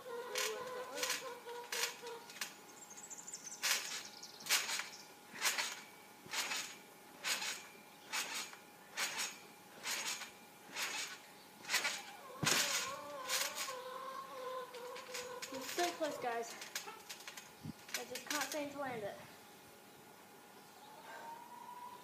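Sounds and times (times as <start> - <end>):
trampoline springs bouncing: 0.0 - 19.2.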